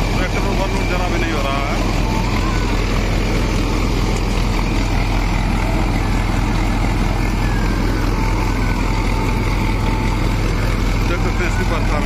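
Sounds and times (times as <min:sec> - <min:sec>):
reaper machinery rushing noise: 0:00.0 - 0:12.0
tractor diesel engine running: 0:00.0 - 0:12.0.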